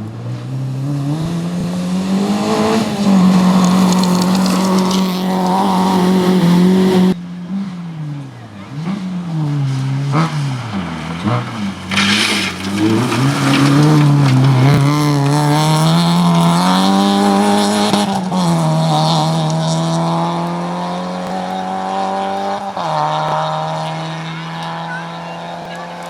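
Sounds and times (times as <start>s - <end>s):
rally car engine revving: 0.0s - 26.0s
tyres on gravel: 0.8s - 7.2s, 9.6s - 26.0s.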